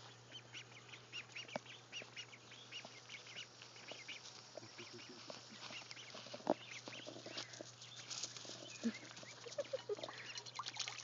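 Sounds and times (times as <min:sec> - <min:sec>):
ducklings peeping: 0:00.0 - 0:11.0.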